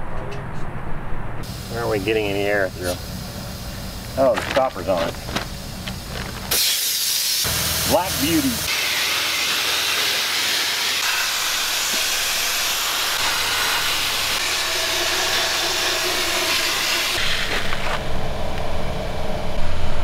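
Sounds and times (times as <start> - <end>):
sandblaster hissing: 1.4 - 18.1.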